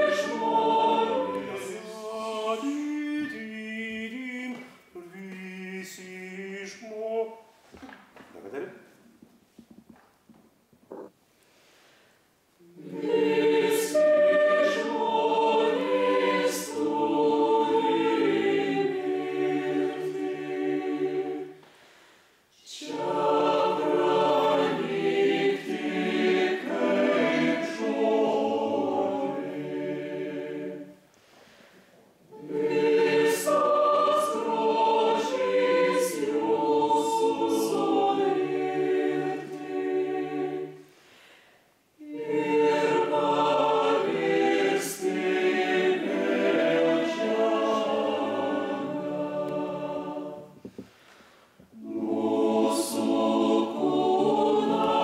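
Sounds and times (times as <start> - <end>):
mixed choir singing a hymn: 0.0 - 7.4, 12.6 - 21.6, 22.6 - 31.0, 32.3 - 41.0, 42.0 - 51.0, 51.7 - 55.0.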